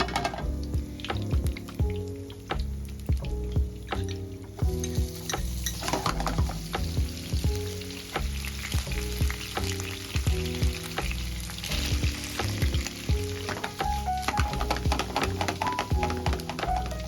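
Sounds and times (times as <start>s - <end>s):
food sizzling in a frying pan: 0.4s - 17.0s.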